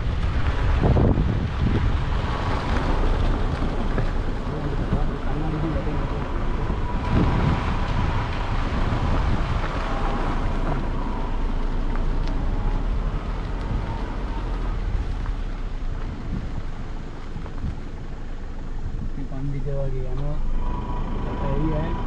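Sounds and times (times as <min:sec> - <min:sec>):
vehicle rumble on dirt track: 0:00.0 - 0:22.0
wind buffeting microphone: 0:00.0 - 0:22.0.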